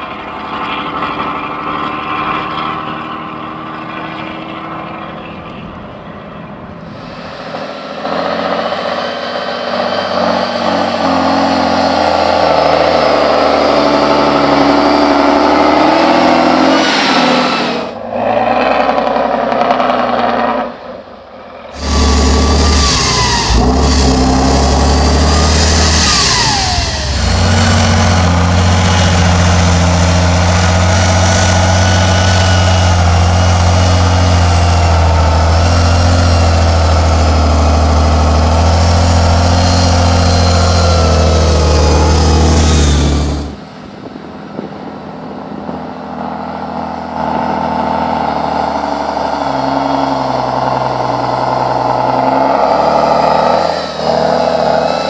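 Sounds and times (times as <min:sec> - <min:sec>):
diesel truck engine running hard: 0:00.0 - 0:55.0.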